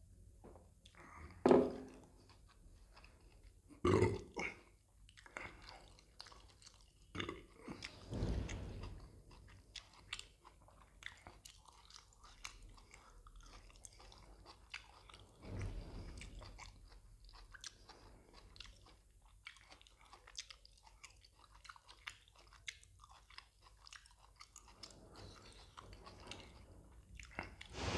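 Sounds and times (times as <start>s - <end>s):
person chewing with wet mouth clicks: 2.1s - 8.0s, 8.8s - 15.4s, 16.2s - 26.6s, 27.2s - 27.7s.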